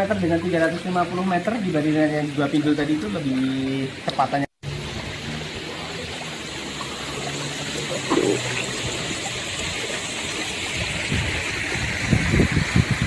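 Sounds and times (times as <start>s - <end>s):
river water running: 0.0s - 13.0s.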